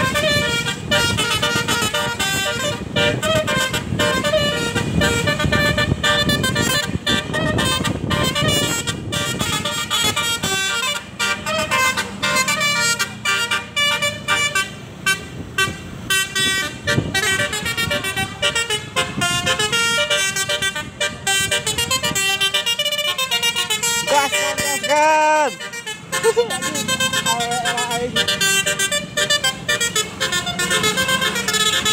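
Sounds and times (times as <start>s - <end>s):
engine rumble: 0.0s - 24.9s, 25.5s - 31.9s
bus musical horn tune: 0.0s - 31.9s.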